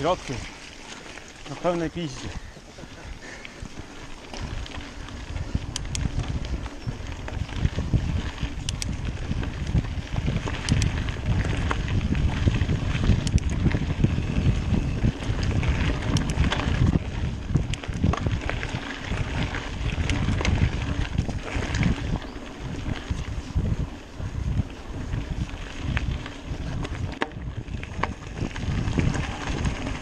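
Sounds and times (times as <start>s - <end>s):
tyres rumbling on trail: 0.0s - 30.0s
wind buffeting the microphone: 0.0s - 30.0s
bike clicks and knocks: 3.5s - 23.8s, 24.8s - 30.0s.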